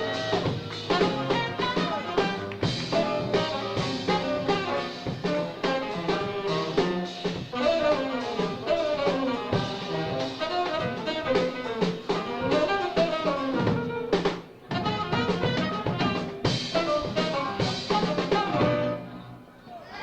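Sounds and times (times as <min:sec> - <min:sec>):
tenor saxophone melody: 0:00.0 - 0:19.0
busy jazz drums: 0:00.0 - 0:19.2
piano: 0:00.0 - 0:19.4.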